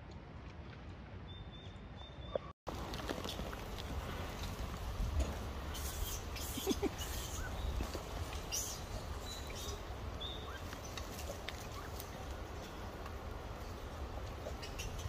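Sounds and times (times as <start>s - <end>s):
footsteps in dry leaves: 2.7s - 15.0s
low wind rumble: 2.7s - 15.0s.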